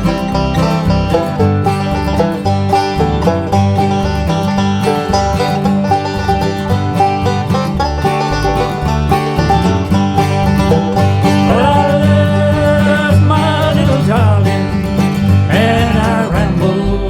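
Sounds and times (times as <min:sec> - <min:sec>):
bluegrass music with banjo and guitar: 0:00.0 - 0:17.0
sliding lead melody: 0:00.0 - 0:17.0.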